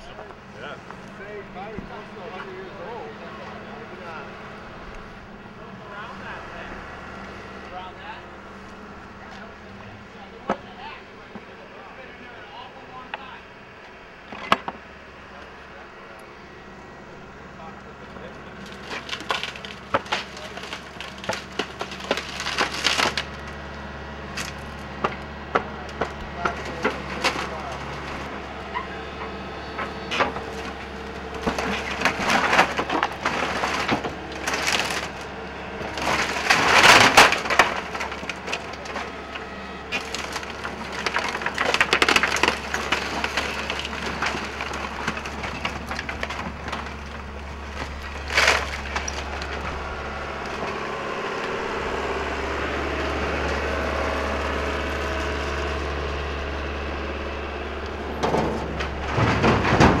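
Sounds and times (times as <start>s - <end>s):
excavator engine hum: 0.0s - 60.0s
timber splintering and crunching: 0.0s - 60.0s.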